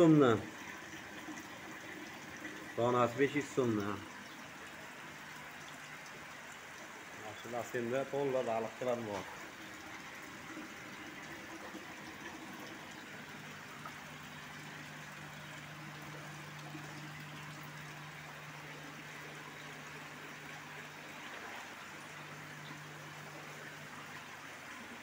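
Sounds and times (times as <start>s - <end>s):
pump electric hum: 0.0s - 25.0s
water trickling into tank: 0.0s - 25.0s.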